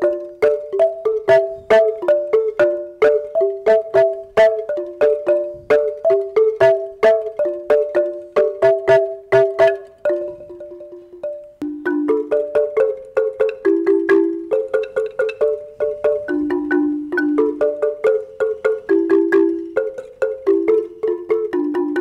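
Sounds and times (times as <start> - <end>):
marimba playing fast run: 0.0 - 22.0.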